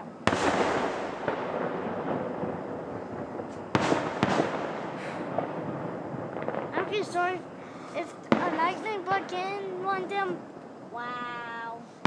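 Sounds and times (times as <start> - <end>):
sharp bangs: 0.0 - 10.6
distant fireworks bursting: 0.0 - 12.0
fireworks crackling: 0.0 - 12.0.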